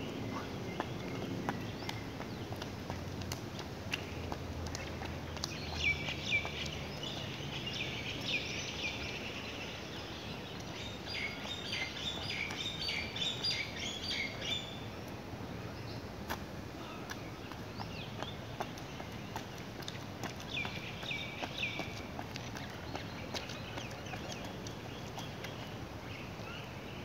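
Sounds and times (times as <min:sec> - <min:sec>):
small birds chirping: 0:00.0 - 0:16.1, 0:16.8 - 0:27.0
low outdoor background noise: 0:00.0 - 0:27.0.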